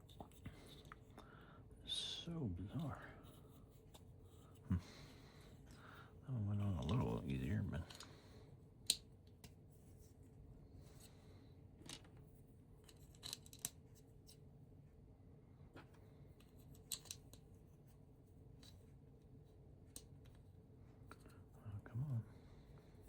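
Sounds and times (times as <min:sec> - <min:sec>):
room hum: 0:00.0 - 0:23.0.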